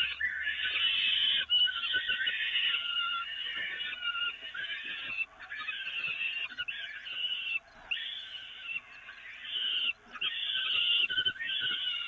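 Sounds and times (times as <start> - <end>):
falcon chicks begging calls: 0.0 - 12.0.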